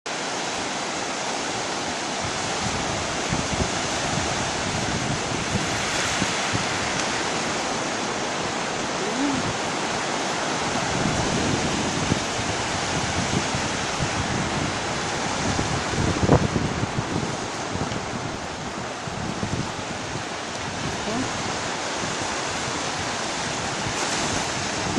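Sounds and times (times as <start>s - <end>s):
surf washing onto shore: 0.1s - 24.9s
wind buffeting microphone: 1.5s - 24.9s.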